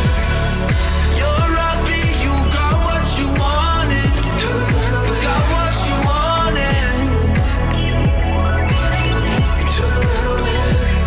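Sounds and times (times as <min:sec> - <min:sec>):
deep kick drum: 0:00.0 - 0:11.0.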